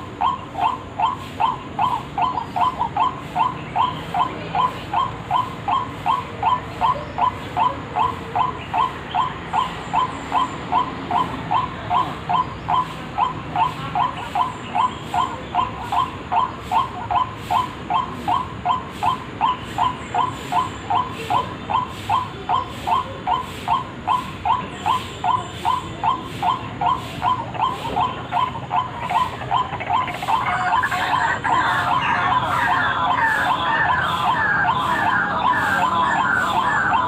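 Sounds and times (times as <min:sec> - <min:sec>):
waterhen call repeated: 0:00.0 - 0:37.0.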